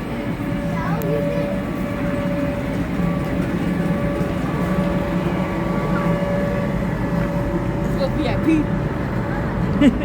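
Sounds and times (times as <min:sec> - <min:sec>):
mechanical hum with whine: 0:00.0 - 0:10.0.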